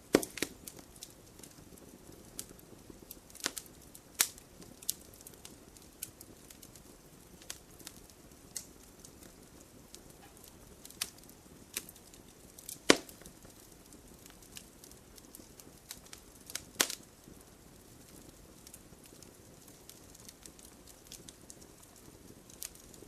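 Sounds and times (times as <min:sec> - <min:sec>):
campfire crackling and popping: 0:00.0 - 0:23.0
fire burning hiss: 0:00.0 - 0:23.0.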